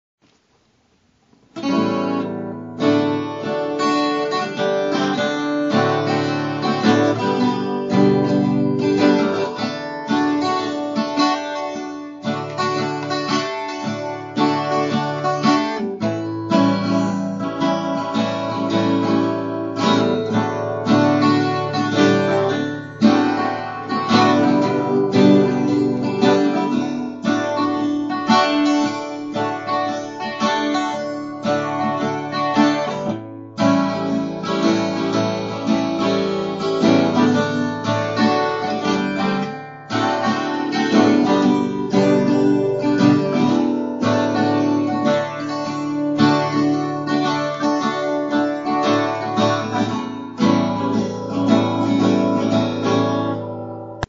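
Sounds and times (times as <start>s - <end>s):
acoustic guitar strumming: 1.3s - 54.0s.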